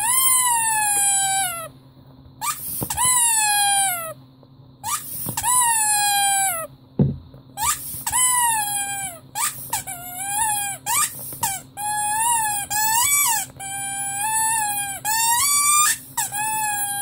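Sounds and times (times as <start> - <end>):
rubber squeaky toy squeaks: 0.0 - 1.7, 2.4 - 4.2, 4.8 - 6.7, 7.6 - 17.0.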